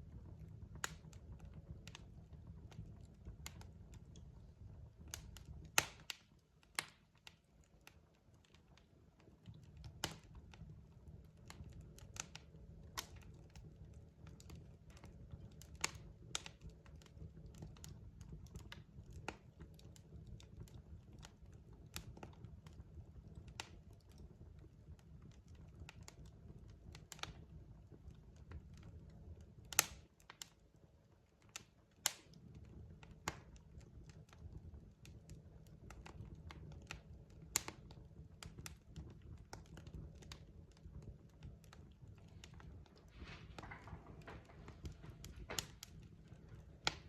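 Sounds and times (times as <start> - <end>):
fire crackling and popping: 0.0 - 47.0
low fire rumble: 0.0 - 47.0.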